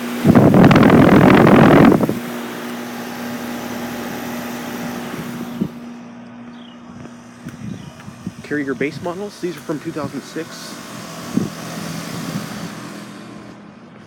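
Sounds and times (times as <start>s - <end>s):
loud rush of air: 0.0s - 6.2s, 6.9s - 13.6s
heat pump compressor and fan hum: 0.0s - 14.0s.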